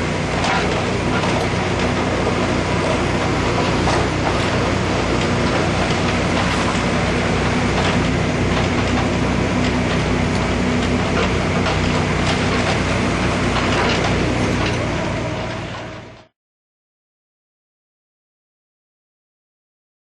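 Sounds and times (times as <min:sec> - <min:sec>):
diesel engine running: 0:00.0 - 0:16.3.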